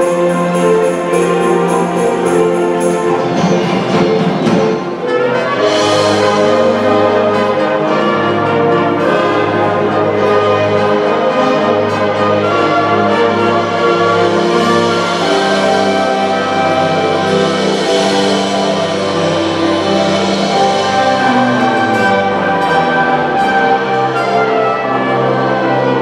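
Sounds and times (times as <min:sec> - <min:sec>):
orchestra with brass and keyboards: 0:00.0 - 0:26.0.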